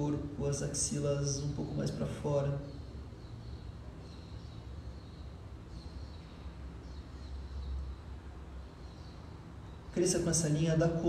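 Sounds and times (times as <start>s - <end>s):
faint bird chirps: 1.2s - 11.0s.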